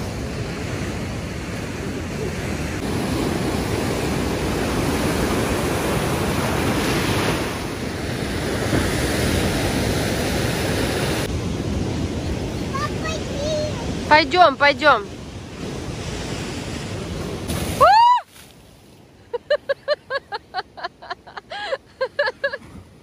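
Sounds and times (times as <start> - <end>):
sea surf on pebbly shore: 0.0 - 23.0.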